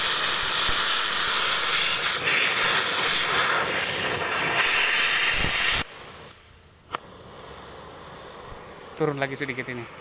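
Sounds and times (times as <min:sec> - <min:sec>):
cutting torch flame hissing: 0:00.0 - 0:10.0.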